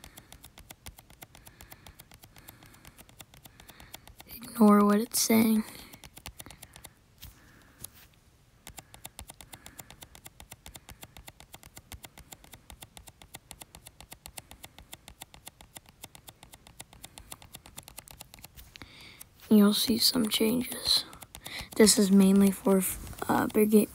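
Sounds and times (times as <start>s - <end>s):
fingertips tapping touchscreen: 0.0s - 23.9s.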